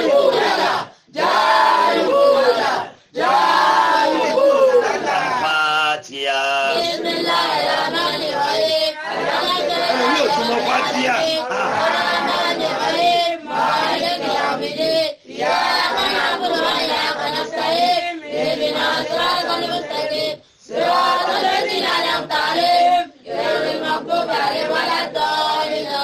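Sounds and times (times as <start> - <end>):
group of voices chanting: 0.0 - 26.0.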